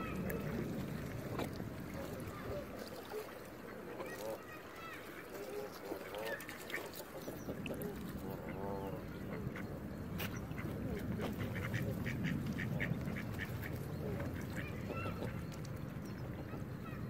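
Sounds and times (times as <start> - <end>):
ducks quacking: 0.0 - 17.0
geese calling: 0.0 - 17.0.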